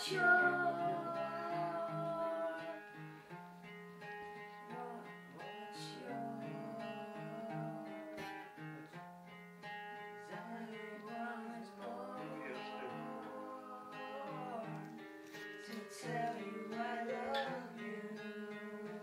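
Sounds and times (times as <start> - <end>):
person singing: 0.0 - 3.0, 4.5 - 8.6, 10.2 - 19.0
acoustic guitar chords: 0.0 - 19.0.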